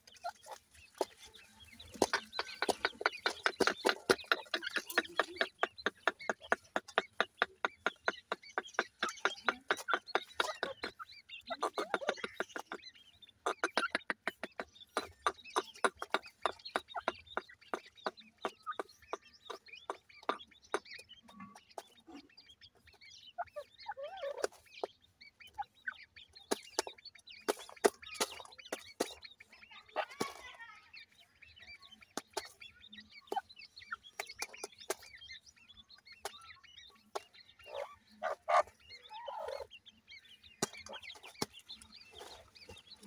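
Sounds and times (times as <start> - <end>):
hen rapid clucking: 0.0 - 30.6, 31.4 - 43.0.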